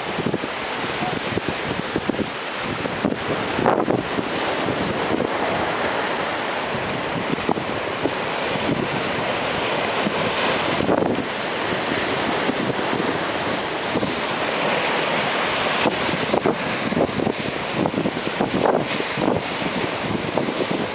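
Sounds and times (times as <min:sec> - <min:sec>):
surf breaking: 0:00.0 - 0:20.9
wind buffeting microphone: 0:00.0 - 0:20.9.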